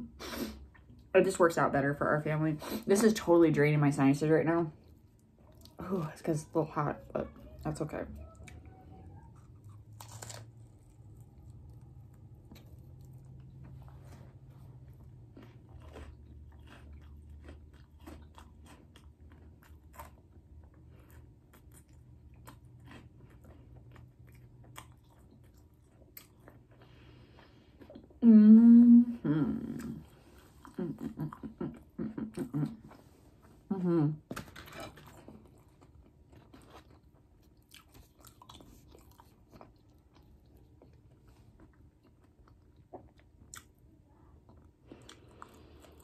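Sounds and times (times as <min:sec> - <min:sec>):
chewing and crunching food: 0:04.5 - 0:28.2, 0:29.6 - 0:33.7, 0:34.3 - 0:46.0.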